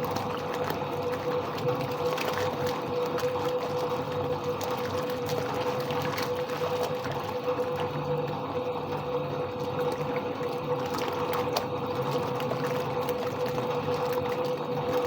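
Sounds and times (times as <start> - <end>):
washing machine motor hum: 0.0 - 15.0
water churning: 0.0 - 15.0.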